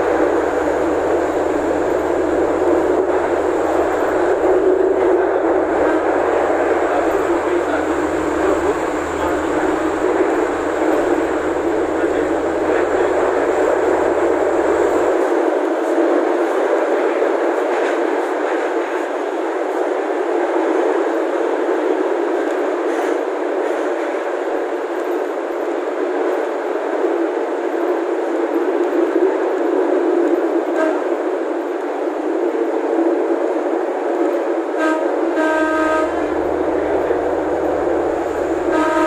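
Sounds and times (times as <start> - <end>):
train engine and wheels on rail: 0.0 - 39.0.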